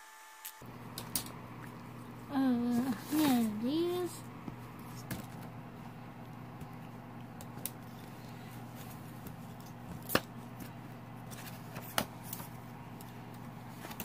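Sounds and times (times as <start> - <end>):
steady low hum: 0.6 - 14.0.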